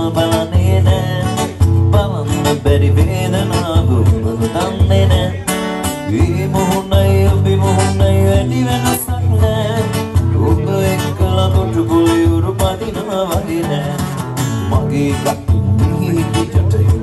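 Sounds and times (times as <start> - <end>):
amplified acoustic guitar: 0.0 - 17.0
man singing into a microphone: 0.0 - 17.0.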